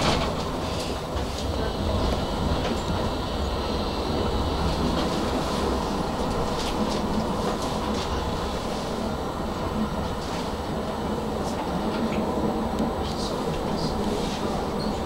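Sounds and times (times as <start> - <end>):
tram wheels rumbling on track: 0.0 - 15.0.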